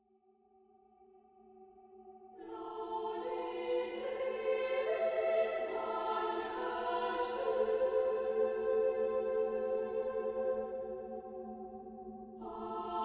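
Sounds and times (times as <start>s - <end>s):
slow choir-like chords: 1.5s - 13.0s.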